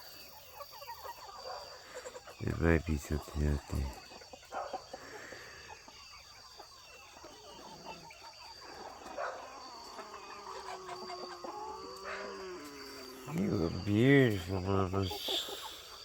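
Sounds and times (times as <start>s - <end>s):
chickens clucking softly: 0.0s - 16.0s.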